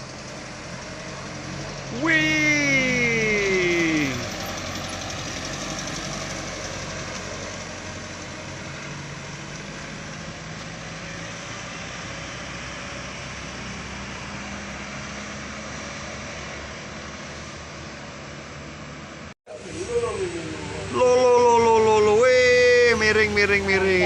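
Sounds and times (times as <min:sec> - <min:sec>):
truck diesel engine droning: 0:00.0 - 0:24.0
tyre and road noise: 0:00.0 - 0:24.0.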